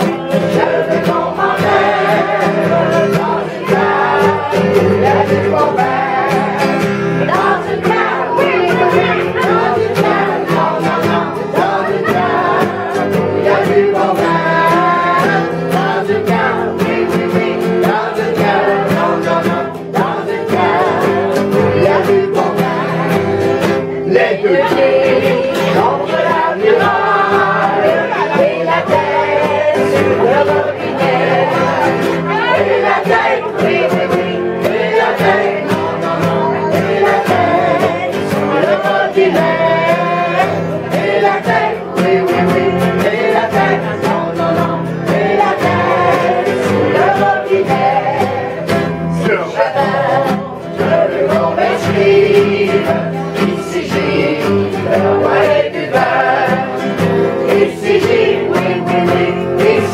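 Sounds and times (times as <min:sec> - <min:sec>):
acoustic guitars strumming: 0:00.0 - 0:59.9
group of people singing: 0:00.0 - 0:59.9.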